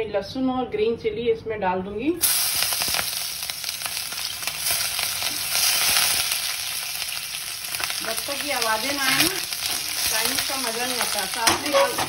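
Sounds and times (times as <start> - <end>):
food sizzling in hot oil: 2.2 - 12.0.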